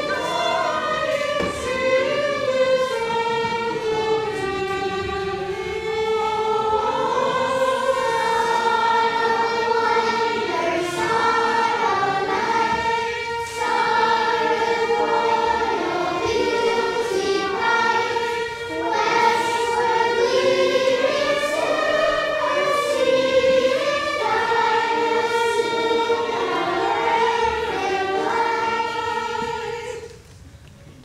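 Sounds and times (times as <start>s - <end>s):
children singing: 0.0s - 30.2s.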